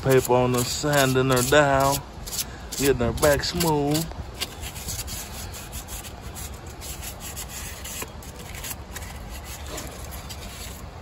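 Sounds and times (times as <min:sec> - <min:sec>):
sandpaper rubbing on rusty steel: 0:00.0 - 0:10.9.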